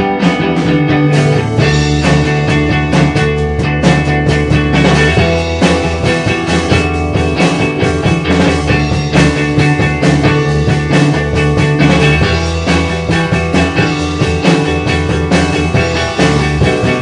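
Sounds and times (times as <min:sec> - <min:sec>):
drum hits: 0:00.0 - 0:17.0
rock band playing: 0:00.0 - 0:17.0.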